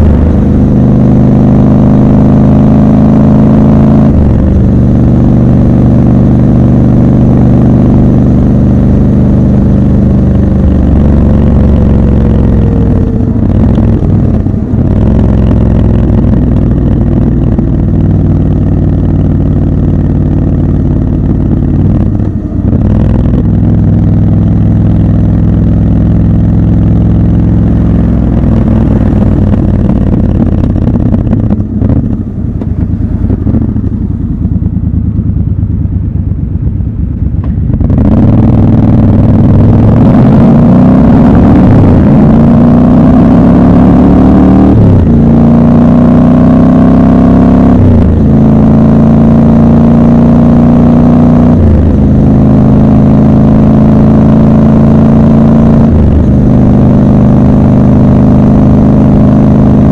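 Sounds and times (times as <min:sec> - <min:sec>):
motorcycle engine shifting gears: 0:00.0 - 0:59.9.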